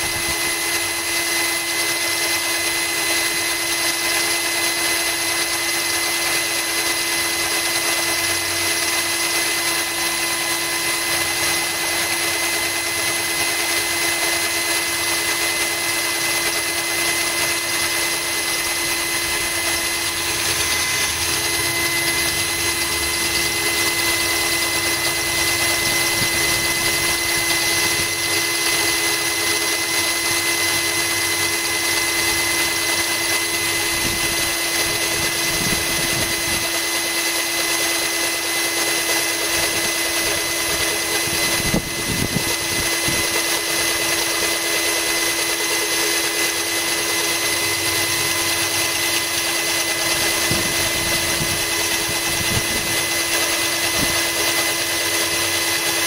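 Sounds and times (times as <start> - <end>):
cordless drill grinding glass: 0.0 - 56.0.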